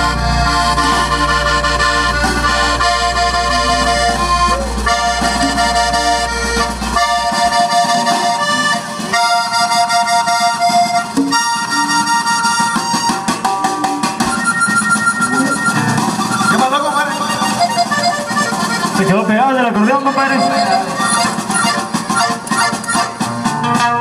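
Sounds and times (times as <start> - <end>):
accordion melody: 0.0 - 24.0
bass guitar: 0.0 - 24.0
drums: 0.0 - 24.0
guitar: 0.0 - 24.0.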